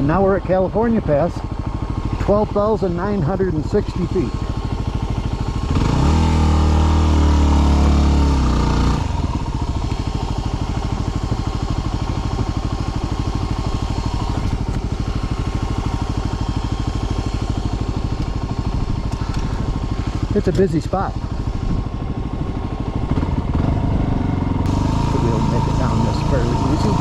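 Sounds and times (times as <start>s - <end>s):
dirt bike engine revving and idling: 0.0s - 27.0s.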